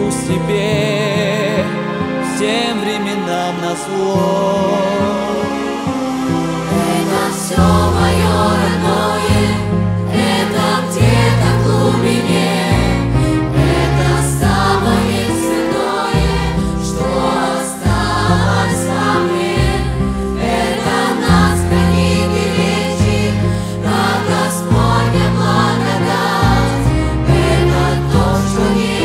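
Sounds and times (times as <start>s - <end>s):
orchestra strings holding chords: 0.0s - 29.0s
children's choir singing: 2.8s - 29.0s.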